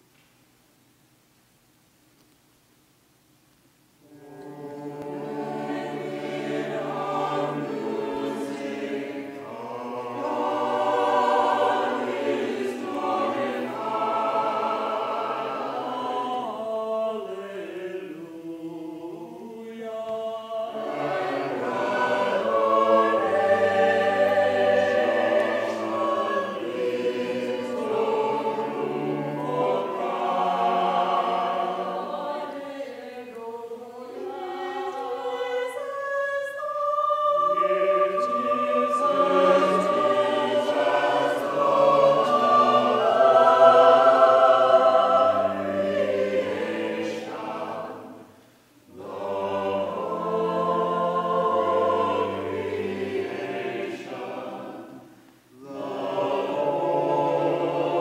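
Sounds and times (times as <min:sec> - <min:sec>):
mixed choir singing a hymn: 0:04.0 - 0:58.0.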